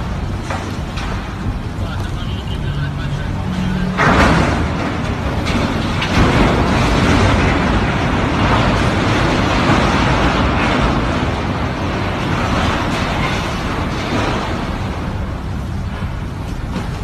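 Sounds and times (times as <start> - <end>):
metal rumbling and grinding: 0.0 - 17.0.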